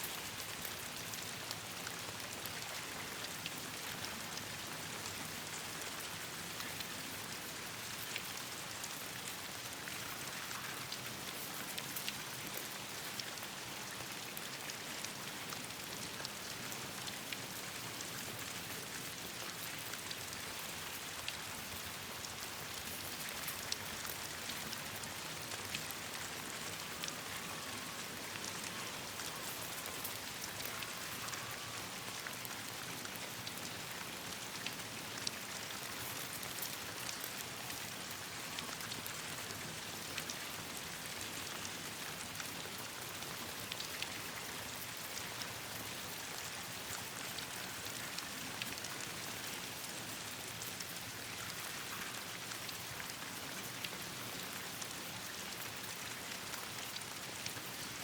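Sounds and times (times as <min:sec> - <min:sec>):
raindrops ticking and popping: 0:00.0 - 0:58.0
steady rain hiss: 0:00.0 - 0:58.0.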